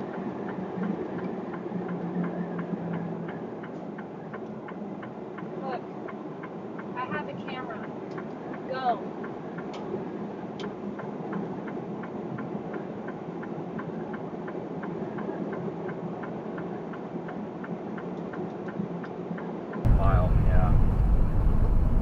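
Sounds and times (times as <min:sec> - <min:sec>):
truck engine and road noise: 0:00.0 - 0:22.0
light regular ticking: 0:00.1 - 0:22.0.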